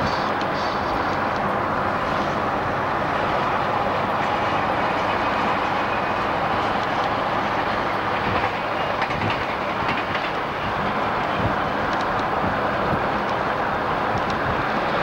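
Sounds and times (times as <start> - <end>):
road noise: 0.0 - 15.0
train wheels clattering on rail: 0.0 - 15.0
wind noise: 0.0 - 15.0.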